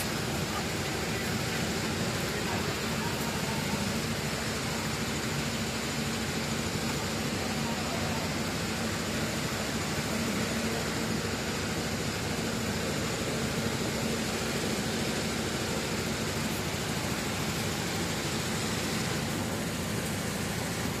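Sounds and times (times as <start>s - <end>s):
machinery and ventilation hum: 0.0s - 21.0s.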